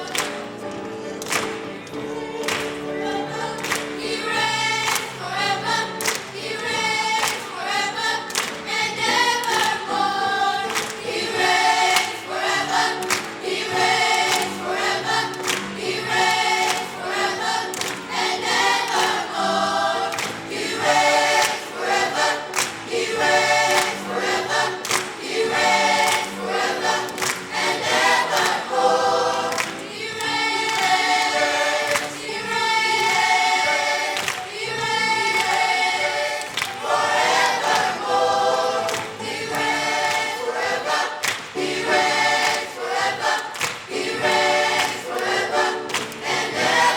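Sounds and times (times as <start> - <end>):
choir singing gospel: 0.0 - 46.9.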